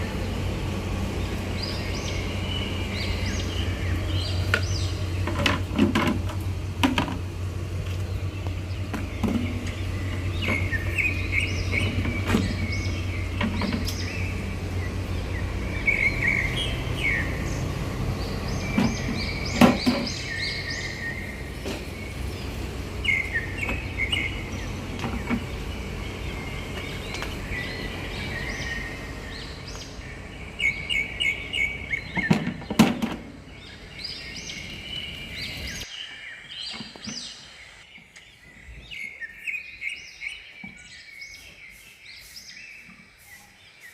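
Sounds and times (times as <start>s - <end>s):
steady low hum: 0.0s - 35.9s
small birds chirping: 0.0s - 43.9s.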